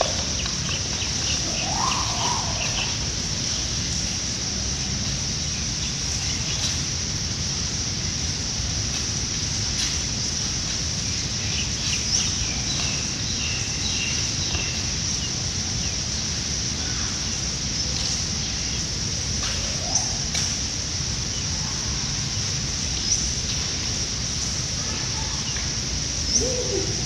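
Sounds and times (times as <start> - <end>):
low wind rumble: 0.0 - 27.0.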